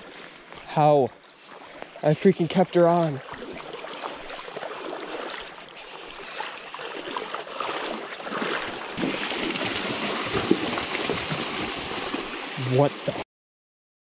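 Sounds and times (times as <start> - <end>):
creek water rushing: 1.4 - 13.2.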